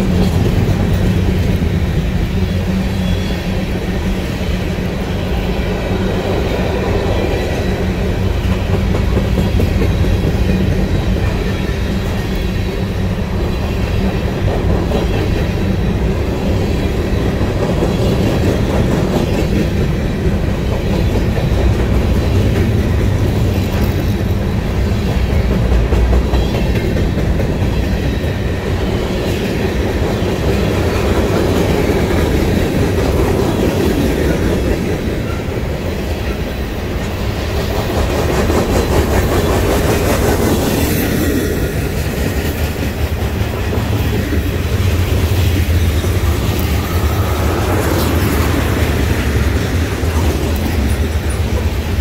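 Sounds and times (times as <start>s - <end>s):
freight train wheels on rail: 0.0s - 52.0s.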